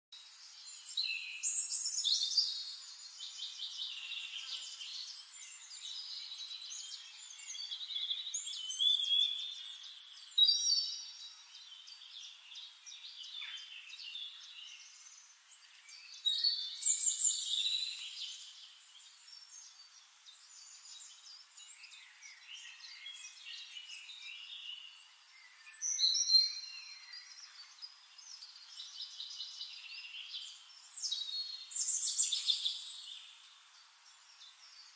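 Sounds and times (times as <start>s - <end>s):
songbirds singing and chirping: 0.1s - 34.9s.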